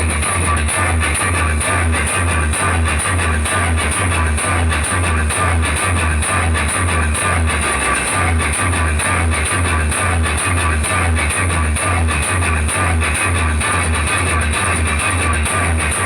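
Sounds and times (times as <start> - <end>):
guitar: 0.0 - 16.0
heavy bass beat: 0.0 - 16.0.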